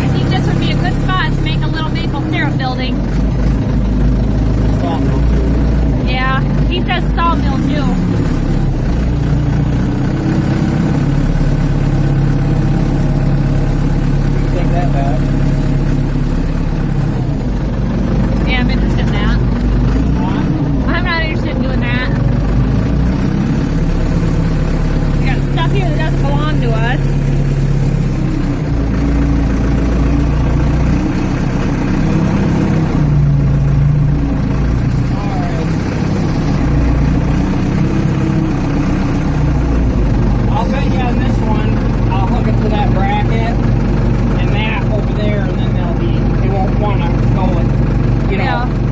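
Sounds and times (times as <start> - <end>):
diesel engine running steadily: 0.0 - 48.9.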